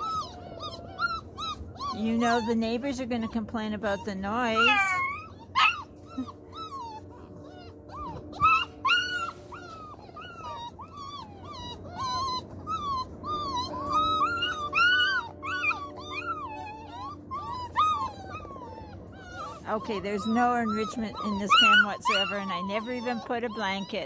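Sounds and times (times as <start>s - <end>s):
puppies whining and yelping: 0.0s - 24.0s.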